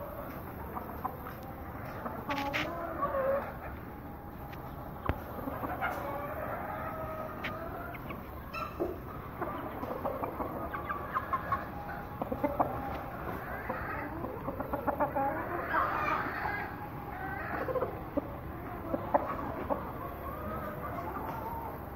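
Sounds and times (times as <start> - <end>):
chickens clucking: 0.0 - 21.9.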